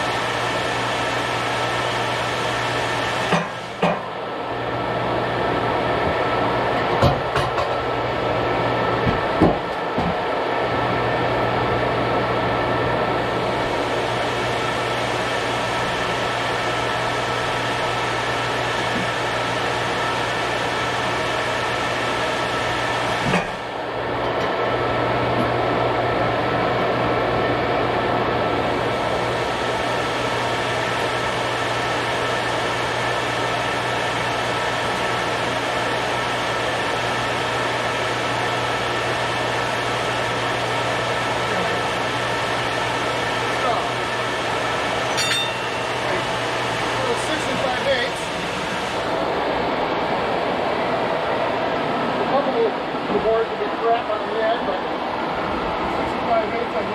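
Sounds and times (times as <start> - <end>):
bandsaw mill drone and whine: 0.0 - 56.9.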